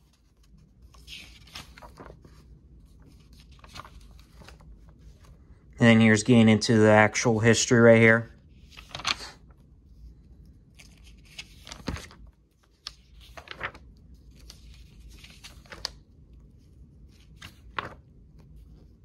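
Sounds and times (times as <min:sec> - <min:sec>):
paper pages being turned: 0:00.0 - 0:05.4, 0:07.4 - 0:19.0.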